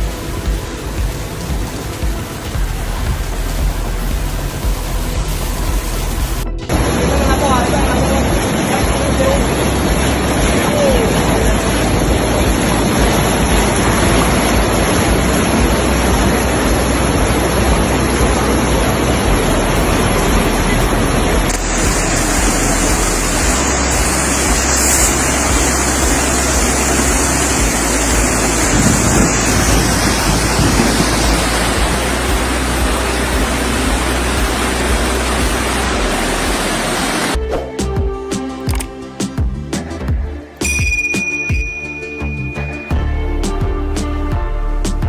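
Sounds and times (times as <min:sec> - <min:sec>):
torrential rain and floodwater rushing: 0:00.0 - 0:37.5.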